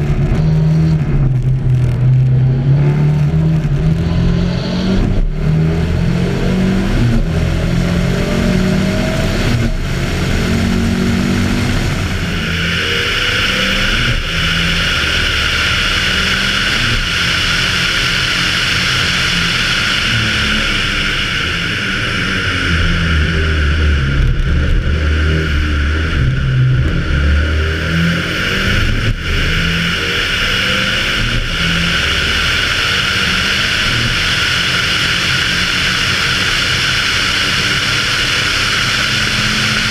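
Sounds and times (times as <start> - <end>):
rally car engine running hard: 0.0 - 39.9.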